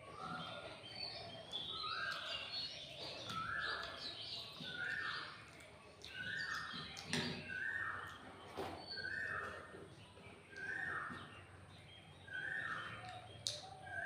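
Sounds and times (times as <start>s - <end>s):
faint chirps: 0.0s - 14.0s
bird calling: 0.1s - 11.6s, 12.2s - 14.0s.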